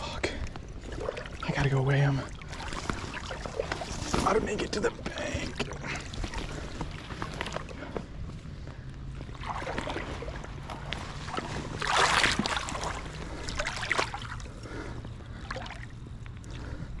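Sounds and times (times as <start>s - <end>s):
low hum: 0.0s - 17.0s
water splashing around boat: 0.0s - 17.0s.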